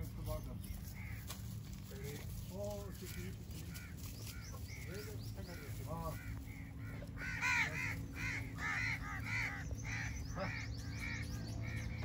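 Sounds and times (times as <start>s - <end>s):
steady low hum: 0.0s - 12.0s
crows cawing: 0.7s - 12.0s.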